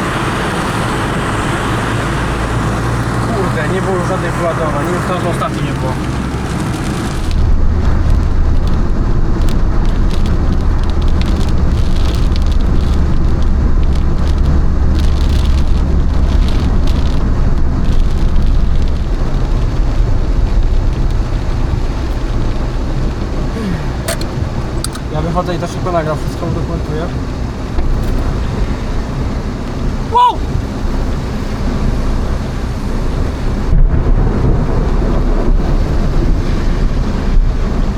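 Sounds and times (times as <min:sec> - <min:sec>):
low road rumble: 0:00.0 - 0:37.9
rain pattering on car body: 0:00.0 - 0:37.9.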